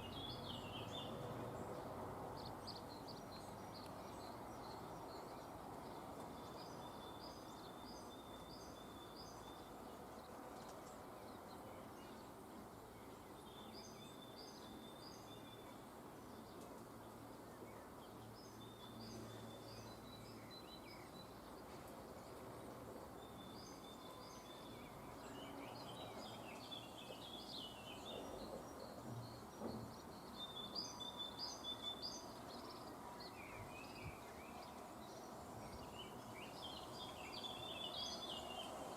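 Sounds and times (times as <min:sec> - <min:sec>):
outdoor background noise: 0:00.0 - 0:38.9
songbird singing: 0:00.0 - 0:38.9.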